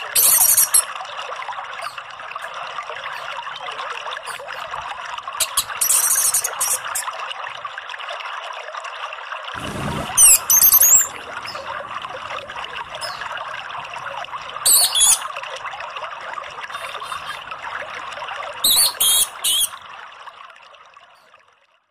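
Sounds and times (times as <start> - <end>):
water trickling: 0.0 - 21.9.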